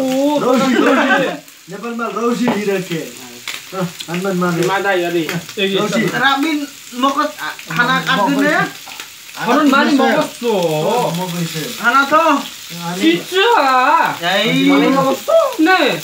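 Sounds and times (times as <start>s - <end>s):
food sizzling in frying: 0.0s - 16.0s
men talking over one another: 0.1s - 16.0s.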